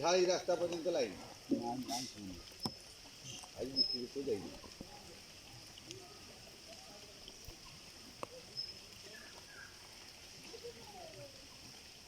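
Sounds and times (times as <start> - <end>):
high-pitched hiss: 0.0 - 11.6.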